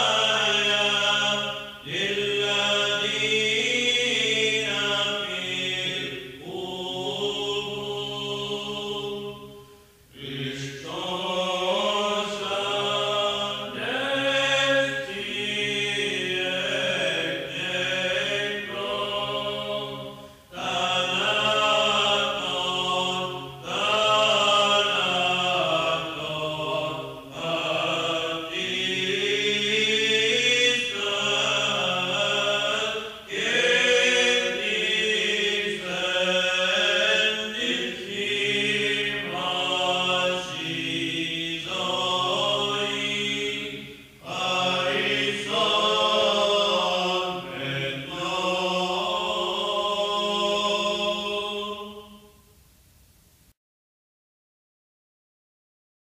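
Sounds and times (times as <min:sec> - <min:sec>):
men singing chant: 0:00.0 - 0:52.1.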